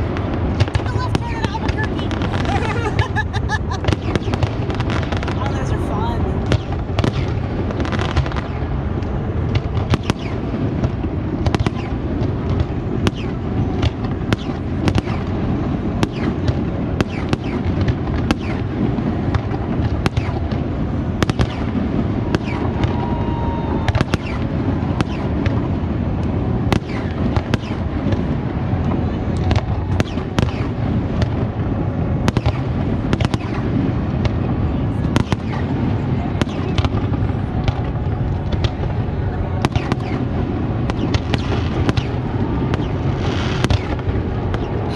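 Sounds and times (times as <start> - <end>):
continuous low rumble: 0.0 - 44.9
fireworks bangs and crackles: 0.0 - 44.9.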